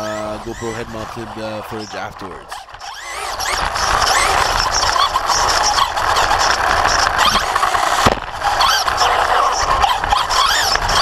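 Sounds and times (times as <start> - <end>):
rc truck motor whine: 0.0 - 11.0
steady rush of noise: 0.0 - 11.0.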